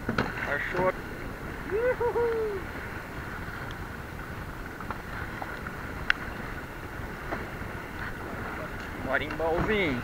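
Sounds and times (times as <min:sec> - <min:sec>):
sea noise: 0:00.0 - 0:10.0
wind on microphone: 0:00.0 - 0:10.0.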